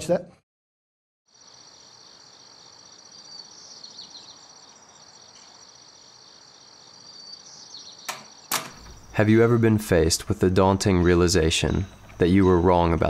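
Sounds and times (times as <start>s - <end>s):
insects trilling: 1.3s - 13.0s.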